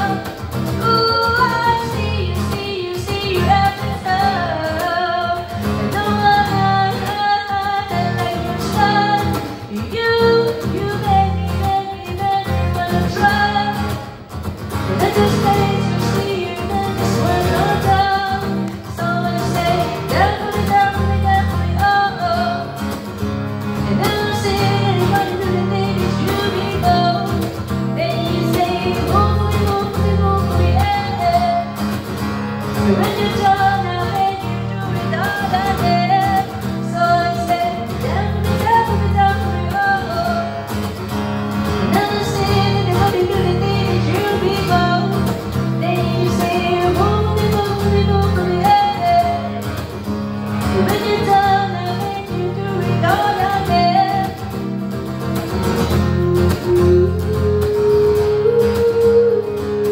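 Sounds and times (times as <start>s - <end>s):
guitar playing pop song: 0.0s - 59.9s.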